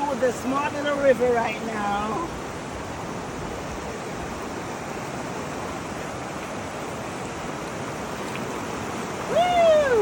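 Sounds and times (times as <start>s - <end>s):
water rushing over stones: 0.0s - 10.0s.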